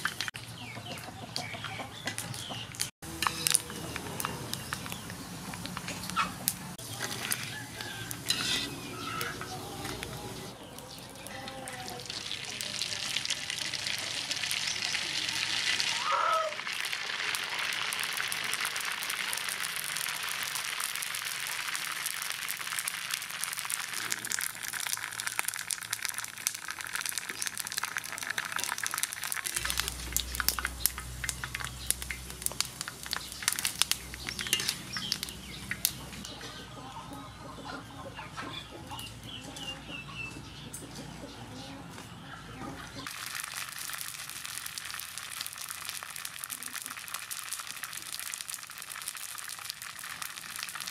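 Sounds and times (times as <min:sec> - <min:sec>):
pork skin sizzling in hot oil: 0:00.0 - 0:00.3, 0:03.0 - 0:10.6, 0:11.2 - 0:36.3, 0:43.0 - 0:50.9.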